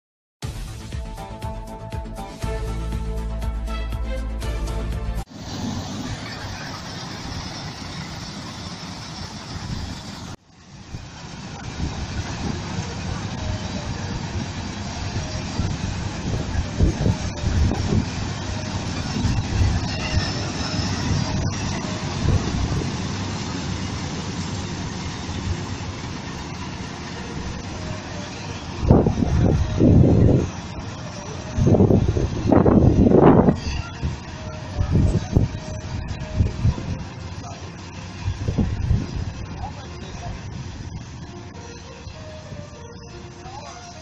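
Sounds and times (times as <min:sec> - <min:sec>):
combine harvester engine rumbling: 0:01.2 - 0:44.0.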